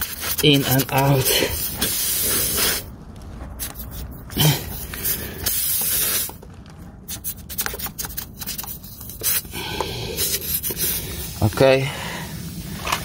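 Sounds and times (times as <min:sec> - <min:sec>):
tyre repair tool hissing and scraping: 0:00.0 - 0:02.9, 0:03.5 - 0:13.0.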